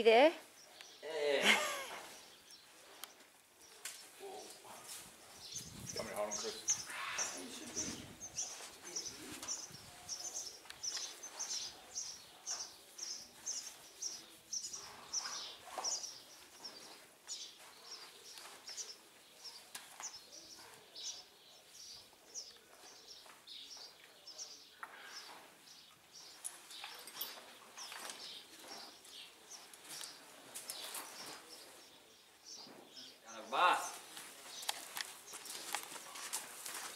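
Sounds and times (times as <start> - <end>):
faint outdoor background: 0.0 - 36.9.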